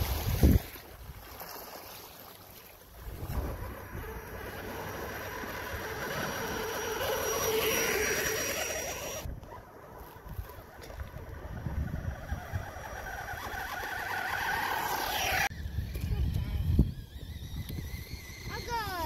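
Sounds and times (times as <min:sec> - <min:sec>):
rc buggy motor whining: 0:03.0 - 0:19.0.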